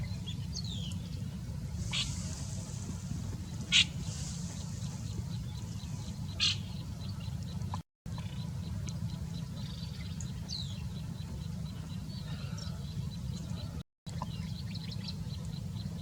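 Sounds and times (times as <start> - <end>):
steady low rumble: 0.0 - 16.0
bird chirping: 1.8 - 16.0.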